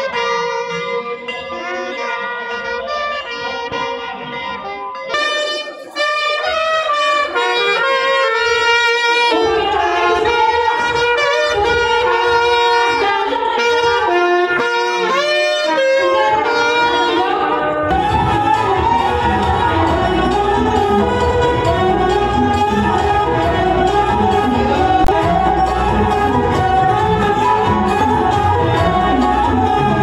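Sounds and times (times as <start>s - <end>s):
saxophone and trumpet melody: 0.0s - 30.0s.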